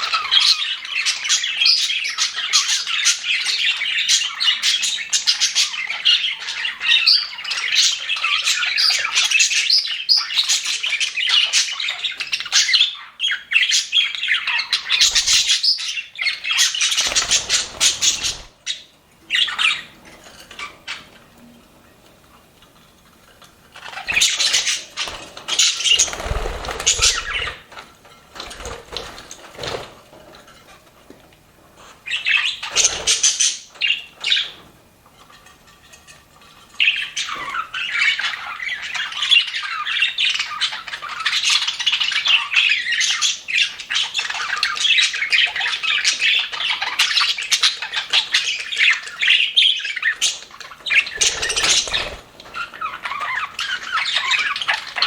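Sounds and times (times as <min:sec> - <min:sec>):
budgerigars chattering and chirping: 0:00.0 - 0:21.2, 0:23.8 - 0:27.8, 0:32.0 - 0:34.6, 0:36.7 - 0:55.0.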